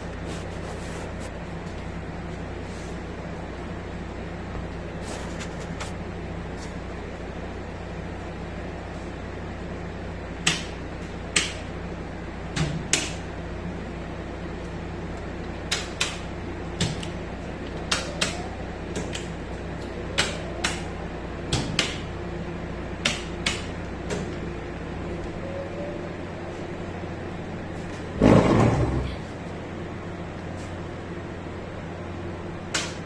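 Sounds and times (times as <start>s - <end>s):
generator machinery hum: 0.0s - 33.0s.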